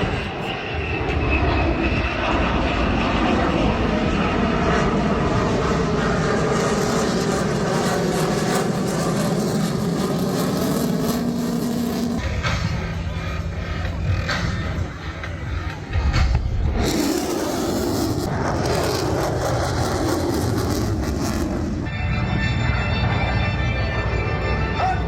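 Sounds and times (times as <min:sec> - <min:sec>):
aircraft flying overhead: 0:00.0 - 0:25.0.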